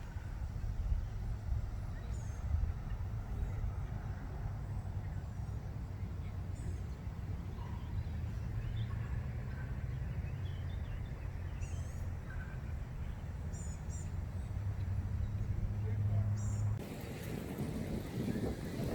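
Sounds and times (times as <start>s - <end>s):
birds chirping: 0.0s - 18.9s.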